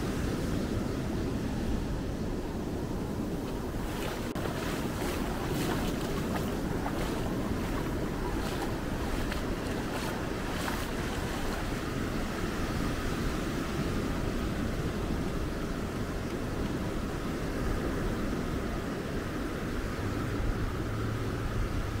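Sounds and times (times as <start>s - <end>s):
surf washing on beach: 0.0s - 22.0s
wind rumbling on microphone: 0.0s - 22.0s.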